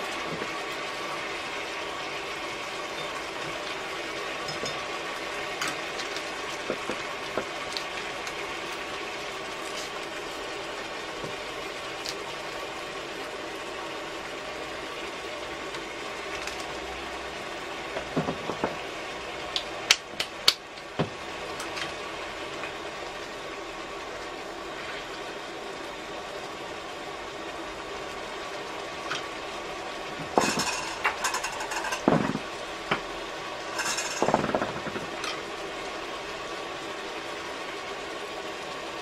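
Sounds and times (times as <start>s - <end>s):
food bubbling in a pot: 0.0s - 39.0s.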